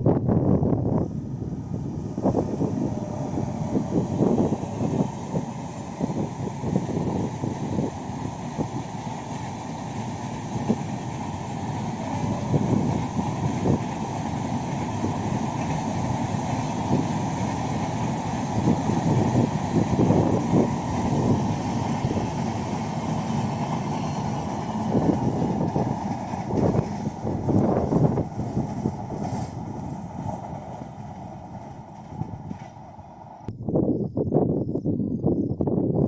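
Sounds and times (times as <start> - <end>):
train wheels rumbling on rails: 0.0 - 33.6.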